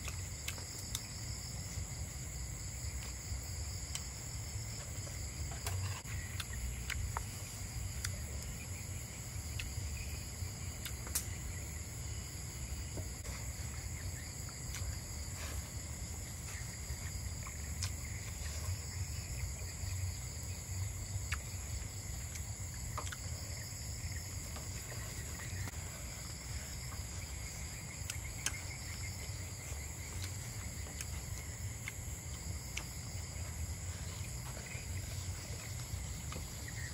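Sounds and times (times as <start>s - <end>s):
crickets and insects trilling: 0.0s - 36.9s.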